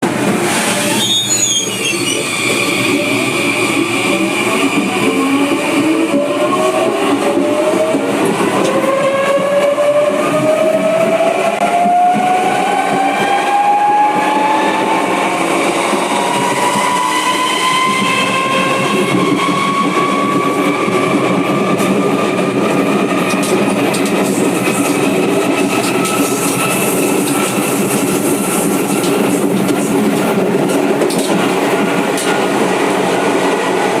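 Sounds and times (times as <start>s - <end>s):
train wheels clacking on rails: 0.0s - 34.0s.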